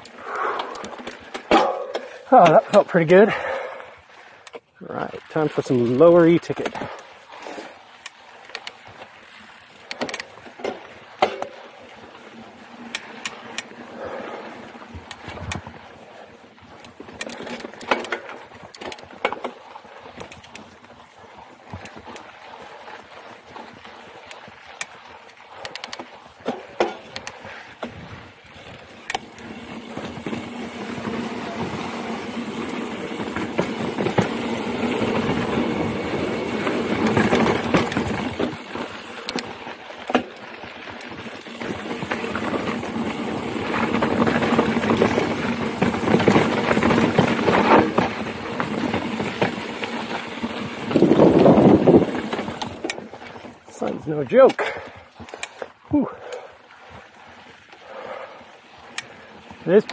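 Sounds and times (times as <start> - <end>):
tyres rushing on dirt: 0.0 - 56.4, 57.1 - 59.9
bike clicking and rattling: 0.0 - 59.9.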